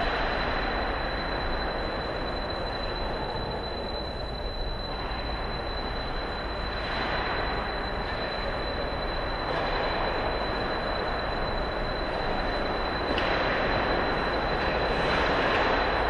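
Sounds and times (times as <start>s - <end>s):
ice rink rumbling ambience: 0.0s - 16.0s
thin high whine: 0.0s - 16.0s.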